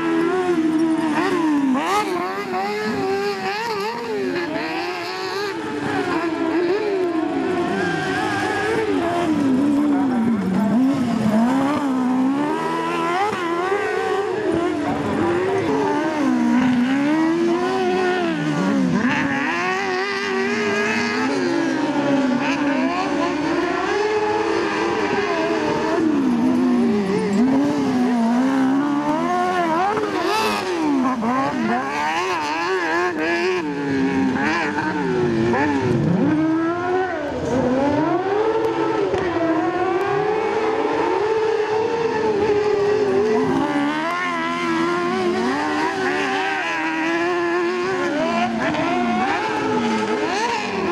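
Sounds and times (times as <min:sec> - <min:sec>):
buggy engine revving hard: 0:00.0 - 0:50.9.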